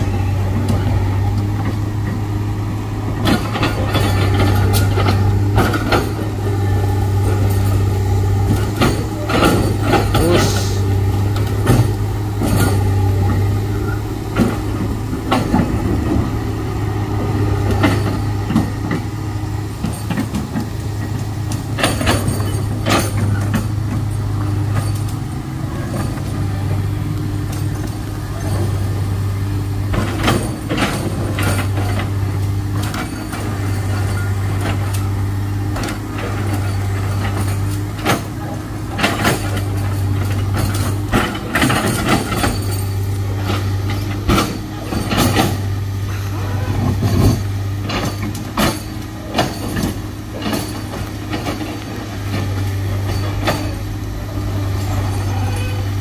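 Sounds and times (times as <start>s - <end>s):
heavy diesel engine running: 0.0s - 56.0s
sharp knocks and clanks: 3.1s - 45.9s, 46.8s - 54.1s.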